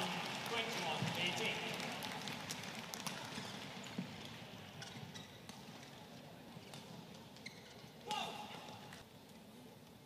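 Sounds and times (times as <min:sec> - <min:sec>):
faint arena hum: 0:00.0 - 0:10.0.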